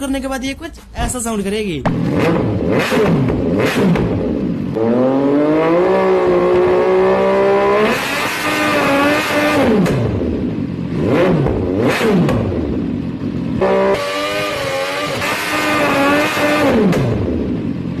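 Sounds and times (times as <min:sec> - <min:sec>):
exhaust cracks: 0:00.0 - 0:04.9, 0:07.9 - 0:17.9
motorcycle engine revving: 0:01.9 - 0:18.0.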